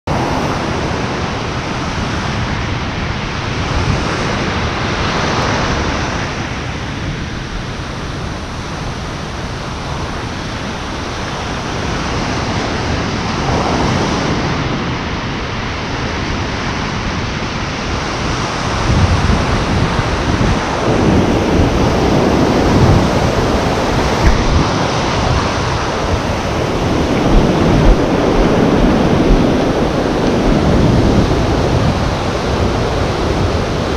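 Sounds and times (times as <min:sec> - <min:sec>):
ocean surf breaking: 0:00.1 - 0:33.9
wind buffeting microphone: 0:00.1 - 0:33.9.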